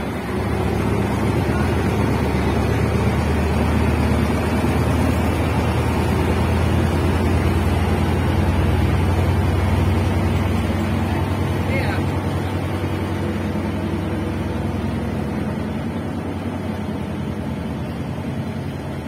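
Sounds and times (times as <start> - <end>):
diesel locomotive drone: 0.0 - 19.0
train coaches rolling over rails: 0.0 - 19.0.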